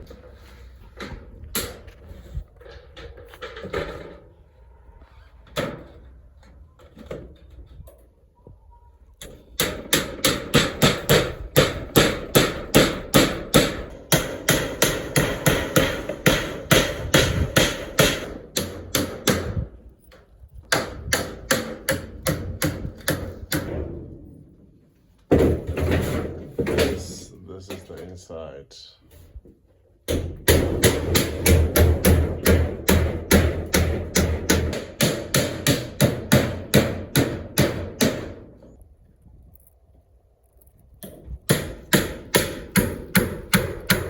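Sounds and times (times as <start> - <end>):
hammer blows on metal roofing: 0.0 - 4.4, 5.4 - 7.8, 9.2 - 19.8, 20.6 - 24.3, 25.3 - 28.0, 30.0 - 38.8, 41.0 - 44.0.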